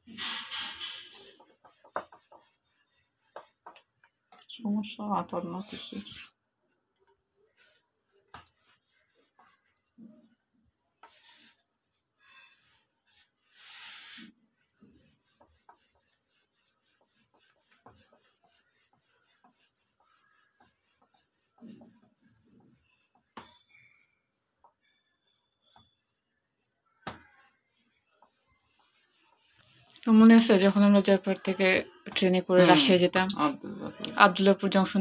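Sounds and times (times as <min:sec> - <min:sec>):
rolling pin rubbing on wooden board: 0:00.2 - 0:04.2, 0:05.2 - 0:06.3, 0:07.5 - 0:26.4, 0:27.0 - 0:31.2.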